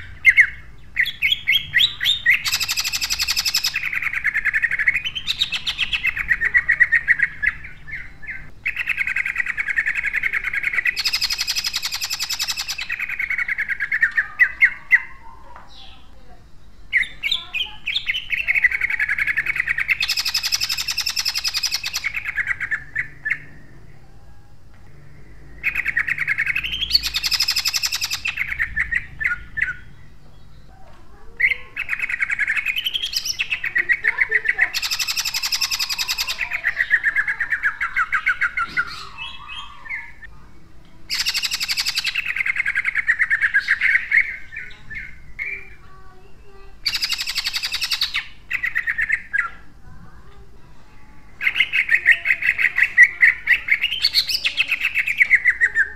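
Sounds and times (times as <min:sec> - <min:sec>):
caged bird singing rapid bursts: 0:00.0 - 0:24.3, 0:24.9 - 0:50.2, 0:51.0 - 0:55.9.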